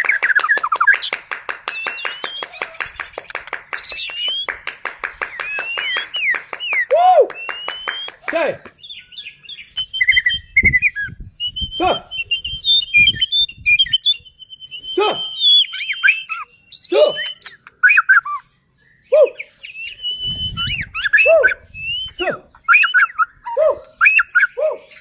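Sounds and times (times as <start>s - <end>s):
bird singing whistles and chatter: 1.7s - 25.0s.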